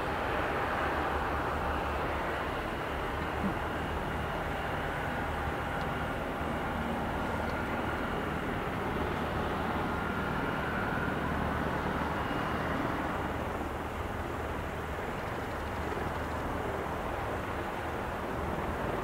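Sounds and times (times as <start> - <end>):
helicopter engines and rotor running: 0.0 - 19.0.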